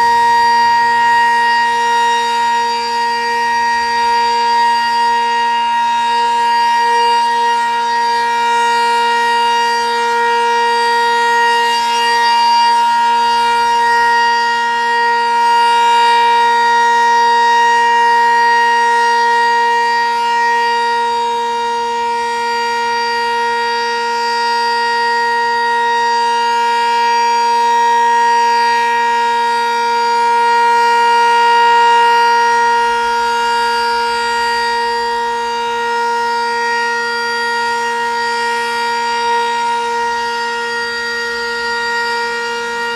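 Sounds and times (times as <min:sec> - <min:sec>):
warning siren steady chord: 0:00.0 - 0:42.9.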